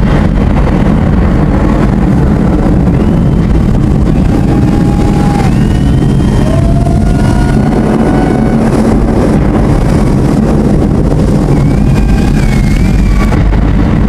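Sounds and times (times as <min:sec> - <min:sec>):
distorted booming bass: 0:00.0 - 0:14.0.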